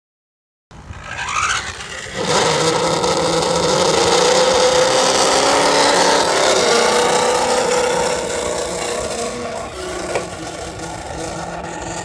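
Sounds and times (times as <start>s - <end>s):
road and tyre noise: 0.7s - 12.0s
electric toy car motor whining: 0.9s - 12.0s.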